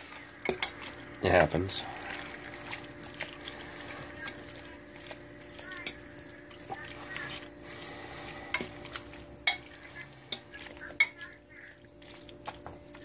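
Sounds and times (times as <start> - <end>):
soft wet mixing: 0.0 - 13.0.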